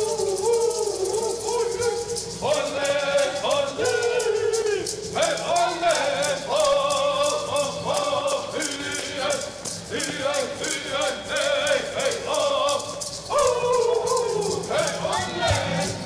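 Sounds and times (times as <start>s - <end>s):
gourd rattles shaken: 0.0s - 16.0s
men singing in high voices: 0.0s - 16.0s.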